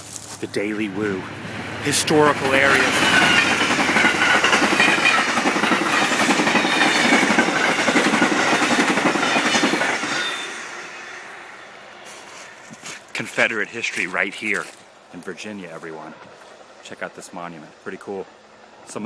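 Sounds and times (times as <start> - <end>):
train cars rolling past: 0.0 - 19.0.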